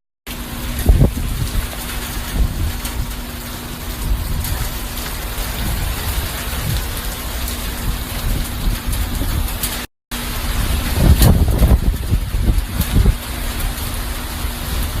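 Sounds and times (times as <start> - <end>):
heavy rain pouring: 0.3 - 15.0
low rumbles: 0.3 - 15.0.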